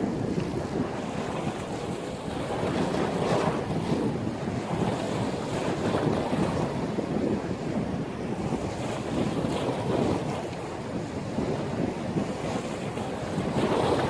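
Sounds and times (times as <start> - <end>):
sea waves breaking: 0.0 - 14.0
wind buffeting microphone: 0.0 - 14.0.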